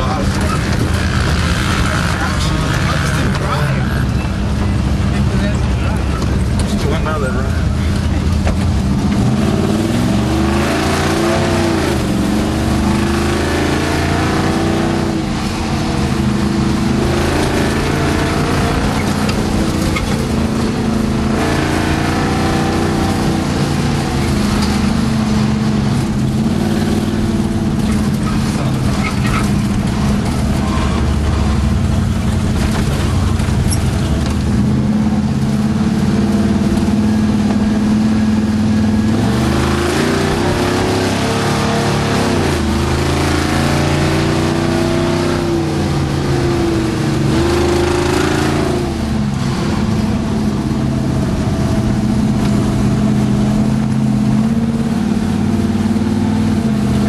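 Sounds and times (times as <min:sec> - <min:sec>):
road and wind noise: 0:00.0 - 0:57.0
vehicle engine revving: 0:00.0 - 0:57.0.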